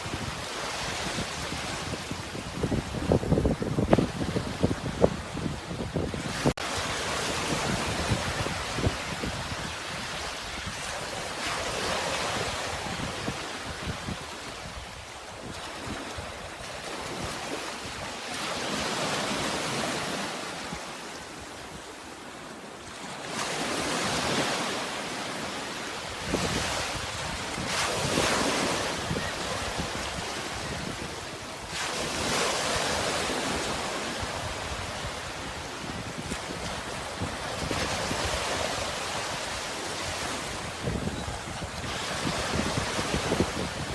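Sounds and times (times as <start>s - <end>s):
sea waves washing on shore: 0.0s - 43.9s.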